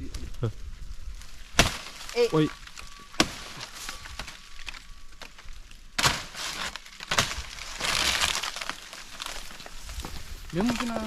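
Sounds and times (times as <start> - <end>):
dry leaves crackling and tearing: 0.0 - 11.0.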